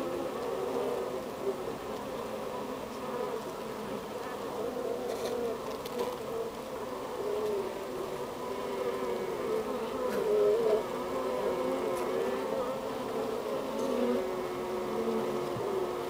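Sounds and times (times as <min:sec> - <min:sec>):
honeybees humming: 0:00.0 - 0:16.0.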